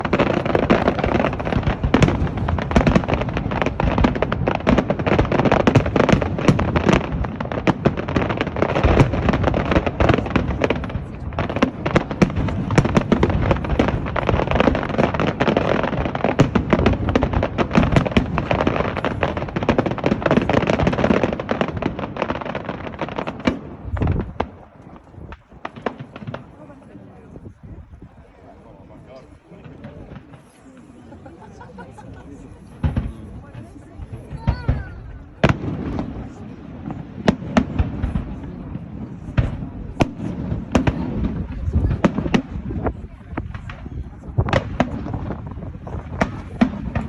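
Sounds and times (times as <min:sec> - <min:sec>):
fireworks bangs and crackling: 0:00.0 - 0:47.0.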